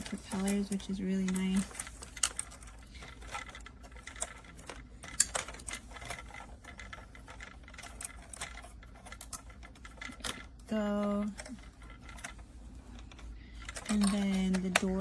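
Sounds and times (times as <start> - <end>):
plastic toy clicks and knocks: 0.0 - 12.4, 13.0 - 15.0.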